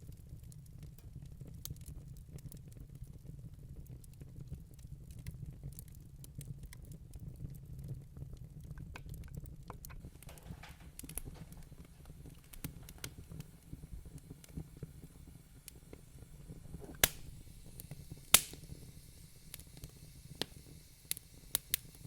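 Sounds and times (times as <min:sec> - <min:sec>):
low rumble of flame: 0:00.0 - 0:22.0
wood fire crackling and popping: 0:00.0 - 0:22.0.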